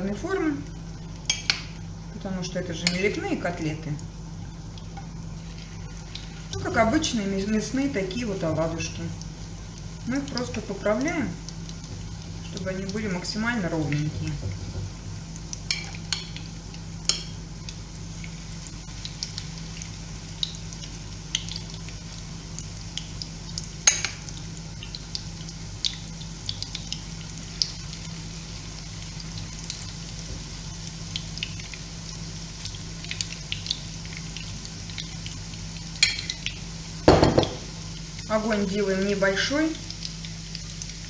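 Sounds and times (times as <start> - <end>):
fritters sizzling in oil: 0.0 - 41.0.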